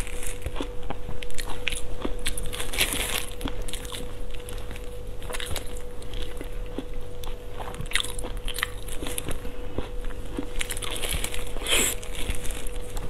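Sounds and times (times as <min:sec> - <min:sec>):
faint hum: 0:00.0 - 0:13.0
person chewing food: 0:00.0 - 0:13.0.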